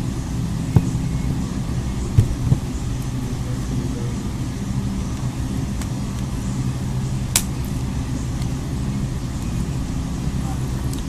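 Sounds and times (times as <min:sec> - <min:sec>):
low rumble and hum: 0:00.0 - 0:11.0.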